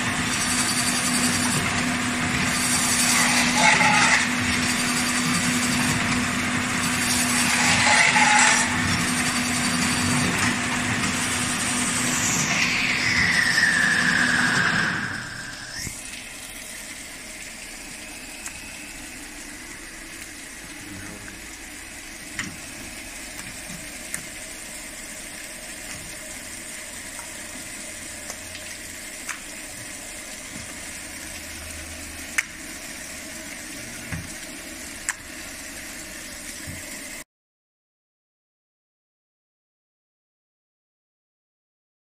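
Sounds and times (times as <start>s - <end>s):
filleting machine running: 0.0s - 37.2s.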